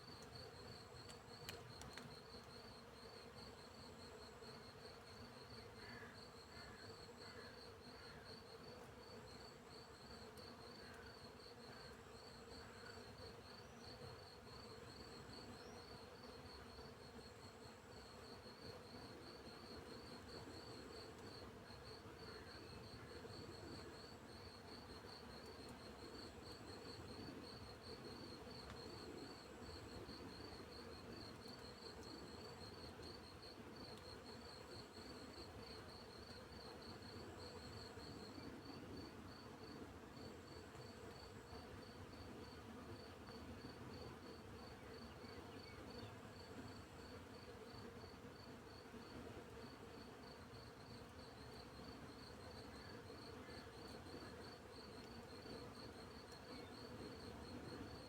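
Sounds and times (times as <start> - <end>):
crickets chirping: 0.0 - 44.0, 49.6 - 58.0.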